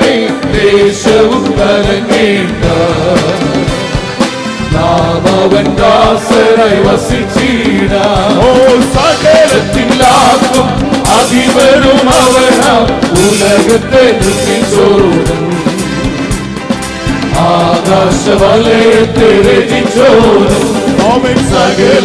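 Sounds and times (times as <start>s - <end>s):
men singing a worship song: 0.0s - 3.9s, 4.5s - 16.1s, 17.2s - 22.0s
band with bass guitar: 0.0s - 22.0s.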